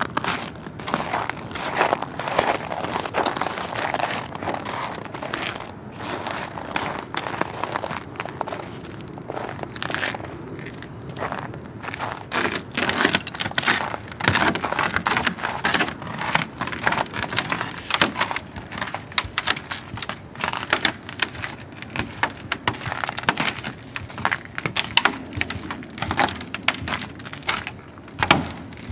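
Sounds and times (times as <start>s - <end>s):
boardwalk creaking: 0.0s - 28.9s
footsteps crunching on snowy boardwalk: 0.0s - 28.9s.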